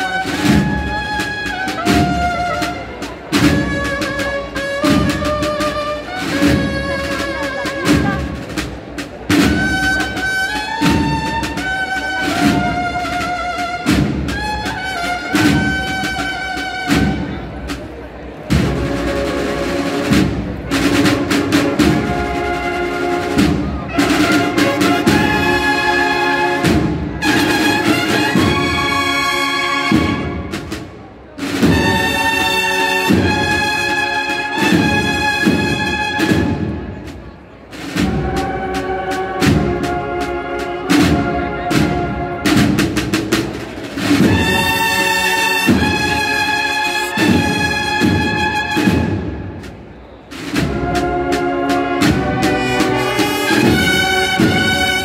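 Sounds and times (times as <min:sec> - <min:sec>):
cornets playing march: 0:00.0 - 0:17.8, 0:18.5 - 0:37.2, 0:37.8 - 0:55.0
snare drum strokes and rolls: 0:00.0 - 0:55.0.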